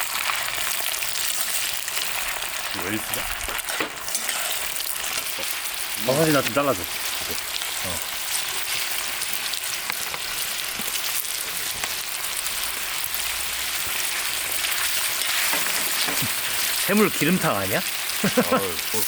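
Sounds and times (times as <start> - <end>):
oil crackling and popping: 0.0 - 19.0
prawns sizzling in oil: 0.0 - 19.0.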